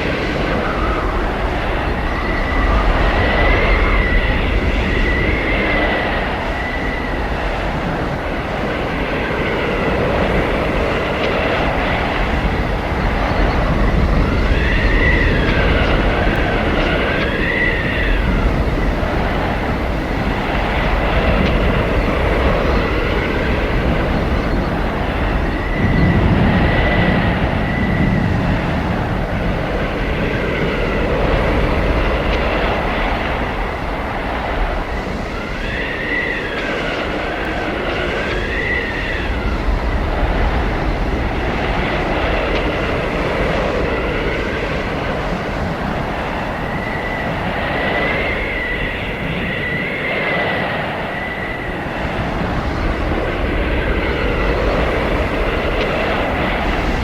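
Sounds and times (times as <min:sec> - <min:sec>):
howling blizzard wind: 0:00.0 - 0:57.0
whistling wind tones: 0:00.0 - 0:57.0.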